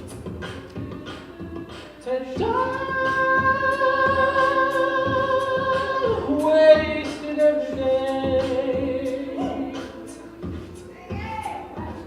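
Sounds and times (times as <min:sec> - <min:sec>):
a cappella group singing: 0:00.0 - 0:12.0.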